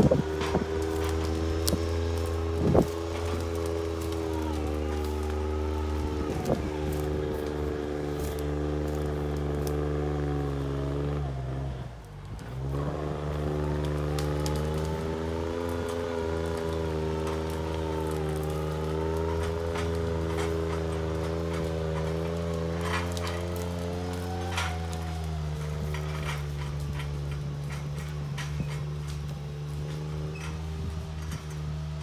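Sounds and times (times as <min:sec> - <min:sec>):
branches and twigs cracking: 0:00.0 - 0:32.0
forestry machine engine running: 0:00.0 - 0:32.0.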